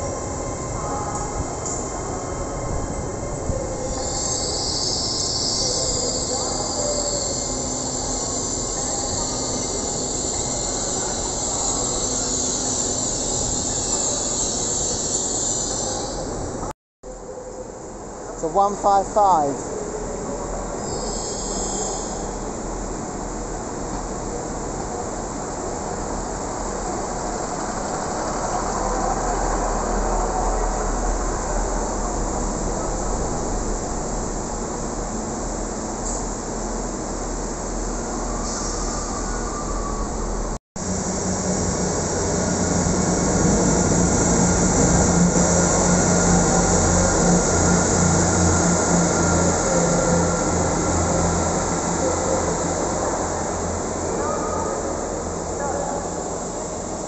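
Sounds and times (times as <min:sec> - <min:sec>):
train rolling past: 0:00.0 - 0:57.0.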